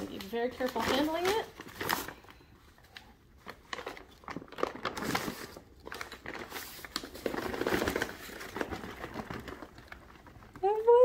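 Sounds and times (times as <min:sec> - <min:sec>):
paper bag crinkling: 0:00.0 - 0:11.0.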